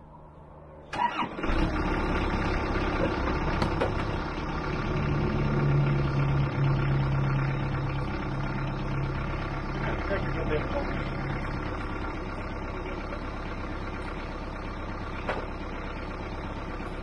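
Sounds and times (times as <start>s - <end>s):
engine starting and idling: 0.7s - 17.0s.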